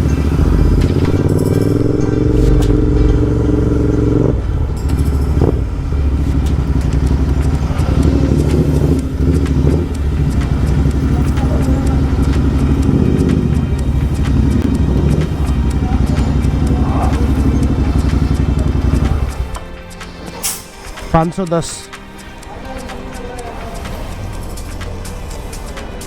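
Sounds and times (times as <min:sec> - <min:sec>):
engine revving: 0:00.0 - 0:26.0
motorcycle engine running: 0:00.0 - 0:26.0.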